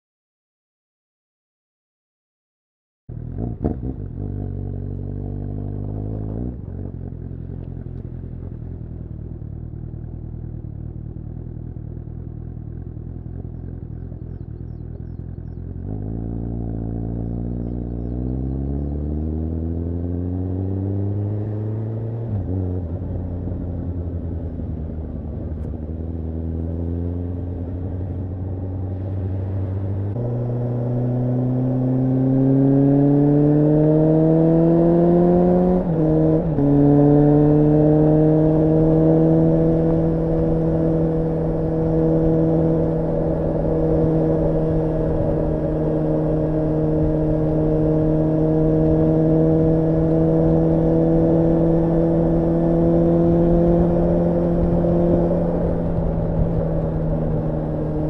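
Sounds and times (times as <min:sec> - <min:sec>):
motorcycle engine running: 0:03.1 - 0:58.0.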